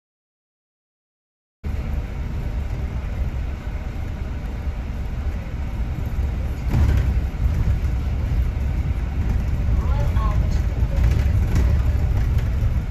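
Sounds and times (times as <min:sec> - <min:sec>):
bus engine and road noise: 0:01.6 - 0:12.9.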